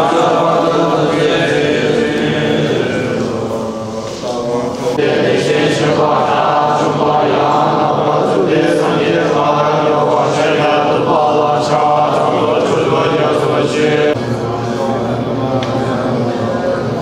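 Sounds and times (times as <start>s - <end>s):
monks chanting in low voices: 0.0s - 17.0s.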